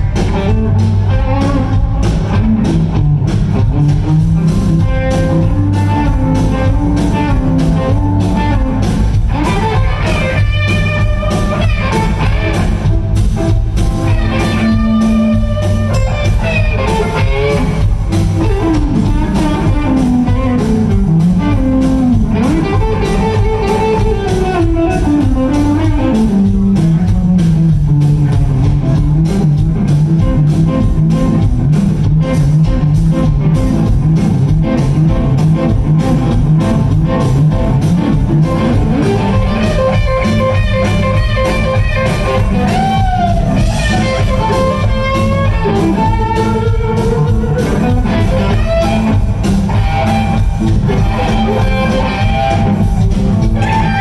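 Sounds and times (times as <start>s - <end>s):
bending lead guitar line: 0.0s - 54.0s
live blues-rock band: 0.0s - 54.0s.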